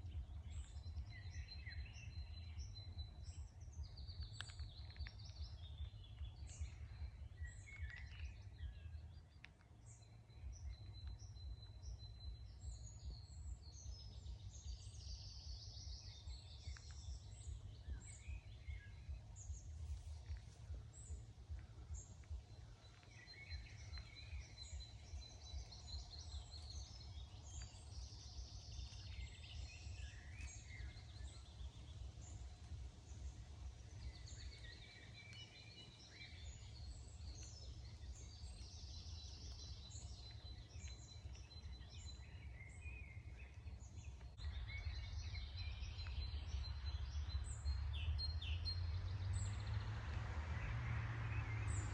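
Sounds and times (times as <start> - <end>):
birds singing and calling: 0.0 - 51.9
steady low rumble: 0.0 - 51.9.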